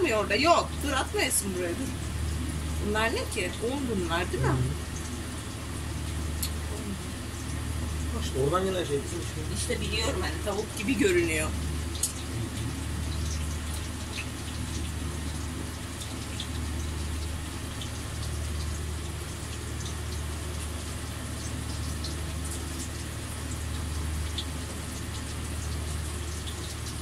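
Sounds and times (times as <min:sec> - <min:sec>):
chicken frying in oil: 0:00.0 - 0:27.0
low steady hum: 0:00.0 - 0:27.0.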